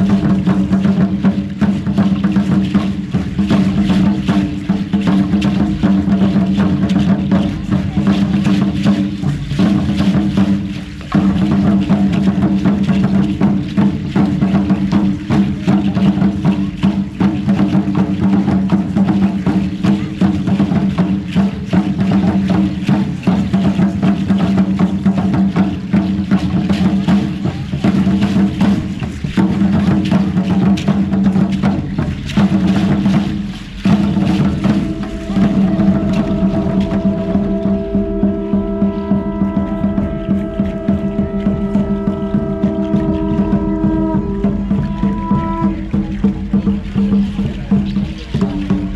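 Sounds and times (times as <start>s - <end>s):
fast dense percussion: 0.0s - 48.9s.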